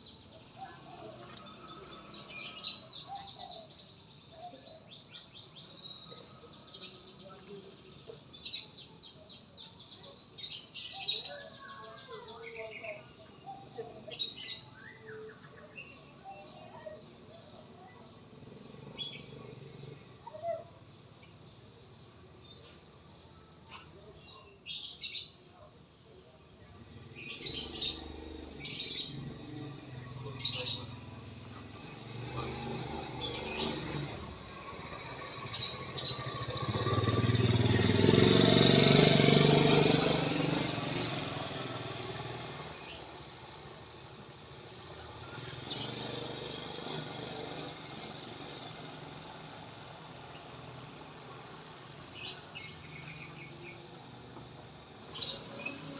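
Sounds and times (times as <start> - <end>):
motorbike passing: 0.0 - 11.2, 18.1 - 23.0, 26.8 - 55.9
songbirds chirping: 0.0 - 55.9.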